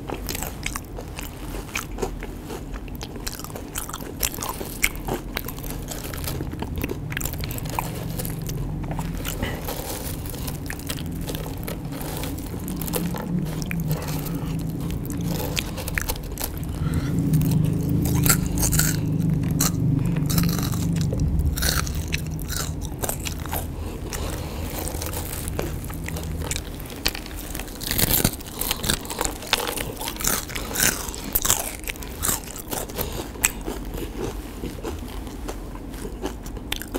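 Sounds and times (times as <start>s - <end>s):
chewing crispy fried food: 0.0s - 36.9s
crackles of crisp batter: 0.0s - 36.9s.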